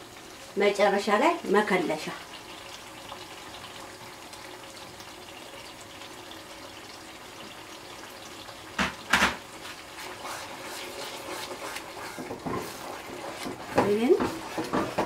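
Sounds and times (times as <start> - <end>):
stew sizzling faintly: 0.0 - 15.0.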